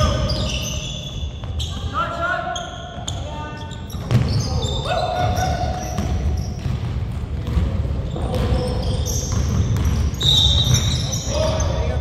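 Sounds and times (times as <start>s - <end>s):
sneaker squeaks: 0.0s - 12.0s.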